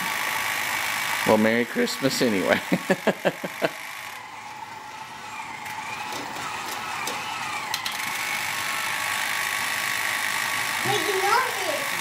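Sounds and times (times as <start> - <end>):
toy motor and gears whining: 0.0 - 12.0.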